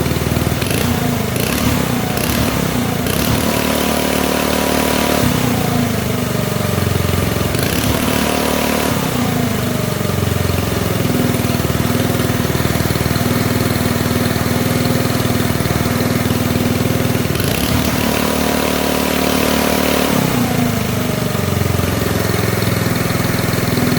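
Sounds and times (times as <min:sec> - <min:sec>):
engine idling and revving: 0:00.0 - 0:23.9.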